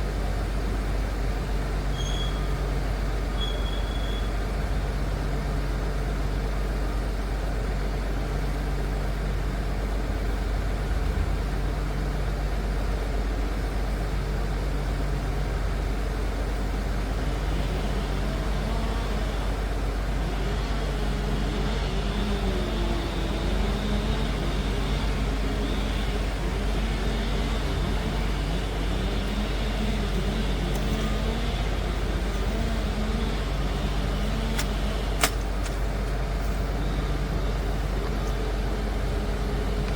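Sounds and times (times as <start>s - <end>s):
dozer diesel engine rumbling: 0.0s - 39.9s.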